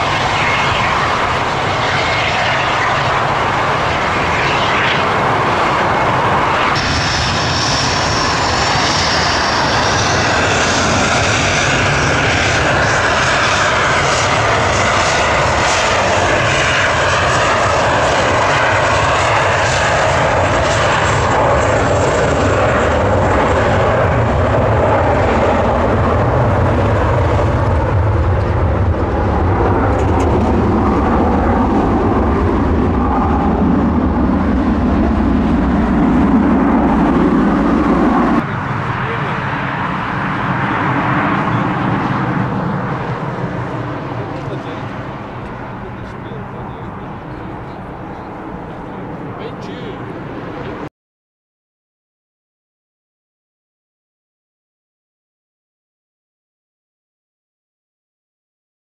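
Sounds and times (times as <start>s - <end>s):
deep rumble: 0.0s - 49.4s
high whine climbing in pitch: 0.0s - 50.9s
jet engines at high power: 0.0s - 50.9s.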